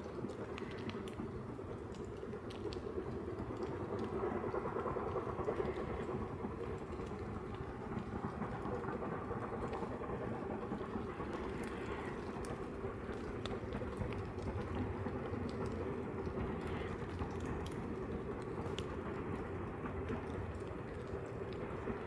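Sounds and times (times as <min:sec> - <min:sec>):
faint clicks: 0:00.2 - 0:10.2, 0:10.8 - 0:22.0
train rumbling: 0:03.9 - 0:22.0.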